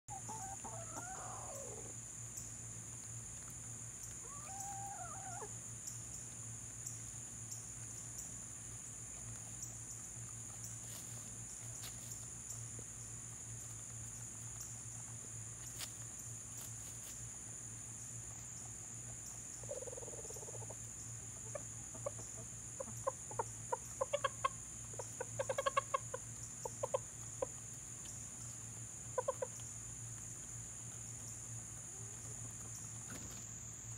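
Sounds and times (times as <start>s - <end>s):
chickens clucking: 0.1s - 2.0s, 3.3s - 17.1s, 19.1s - 33.5s.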